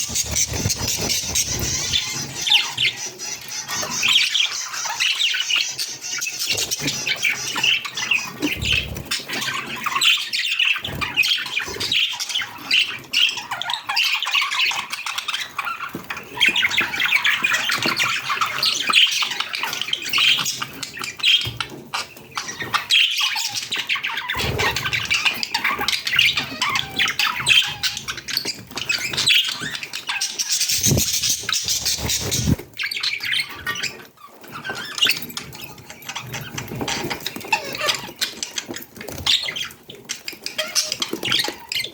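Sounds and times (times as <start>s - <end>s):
budgerigars chattering and squawking: 0.0s - 41.9s.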